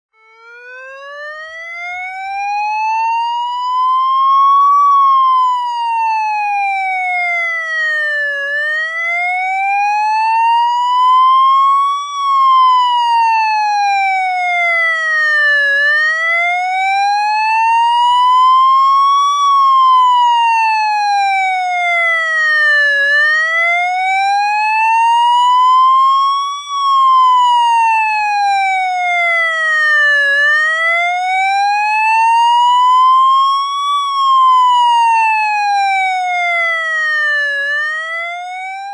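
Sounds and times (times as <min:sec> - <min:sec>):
electronic police siren wailing: 0:00.1 - 0:38.9.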